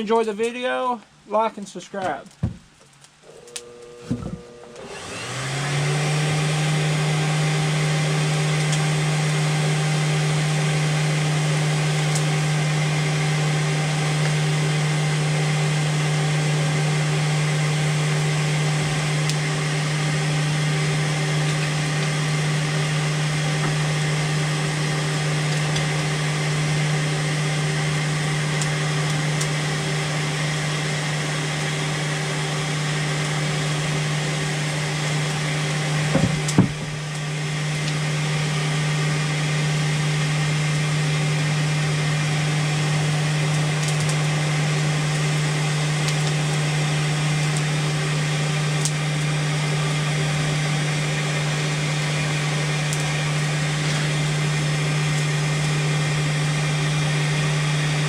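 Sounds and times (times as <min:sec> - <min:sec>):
electric blower humming: 0:03.2 - 0:58.0.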